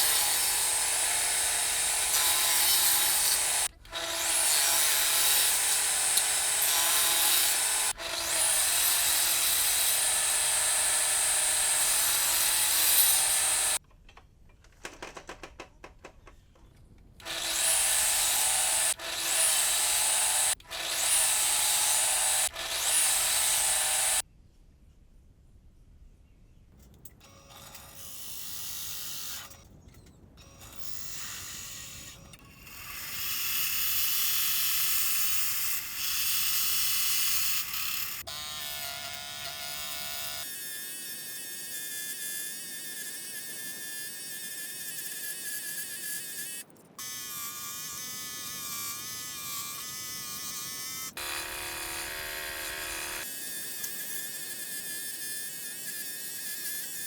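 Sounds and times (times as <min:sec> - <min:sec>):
power tools whirring: 0:00.0 - 0:13.8, 0:17.2 - 0:24.2, 0:30.5 - 0:57.0.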